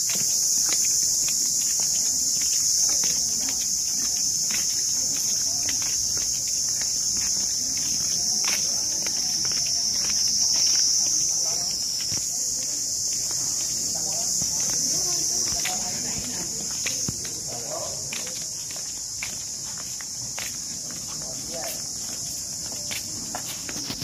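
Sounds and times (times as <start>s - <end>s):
faint voices: 0.0s - 24.0s
footsteps clicking: 0.0s - 24.0s
high-pitched insect chorus: 0.0s - 24.0s.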